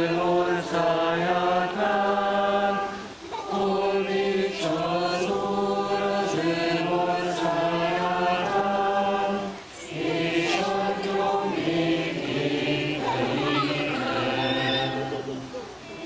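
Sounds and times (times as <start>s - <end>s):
group of voices singing: 0.0s - 16.0s.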